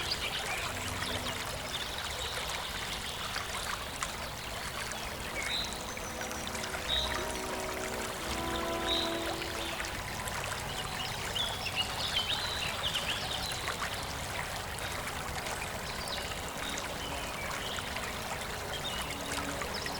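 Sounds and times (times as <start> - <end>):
stream water flowing: 0.0 - 19.9.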